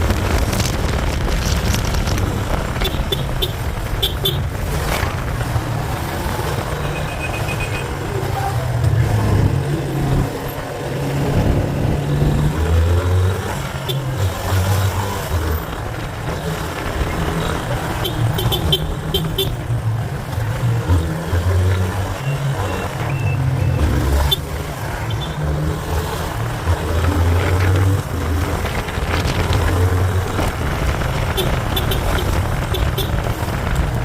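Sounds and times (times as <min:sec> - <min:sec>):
motorcycle engine: 0:00.0 - 0:34.0
road and wind noise: 0:00.0 - 0:34.0.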